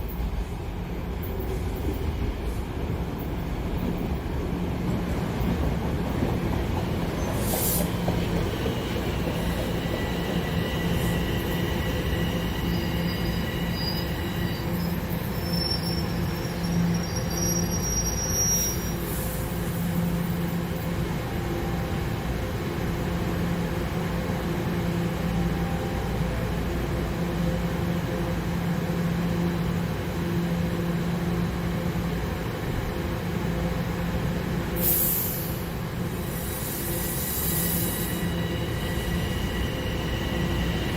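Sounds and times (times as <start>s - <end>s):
subway train rumbling on rails: 0.0s - 40.9s.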